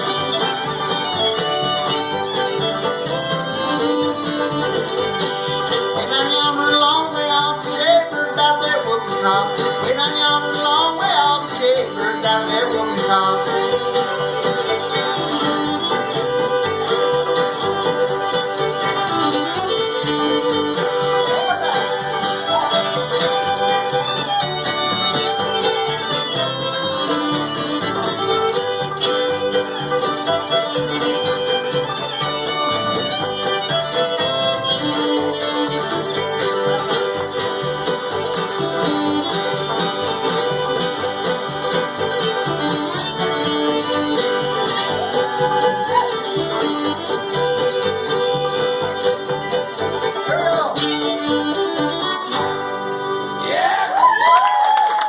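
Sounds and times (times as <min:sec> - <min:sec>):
bluegrass string band playing: 0:00.0 - 0:55.0
fiddle leading: 0:00.0 - 0:55.0.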